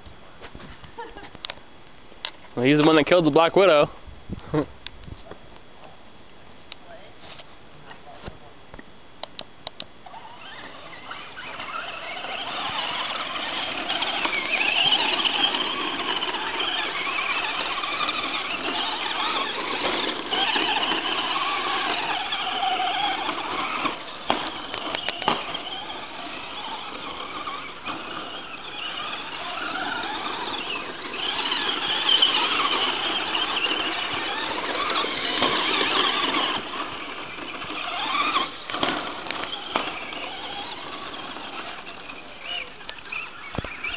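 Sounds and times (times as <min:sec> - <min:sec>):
electric motors whining: 0:07.3 - 0:43.9.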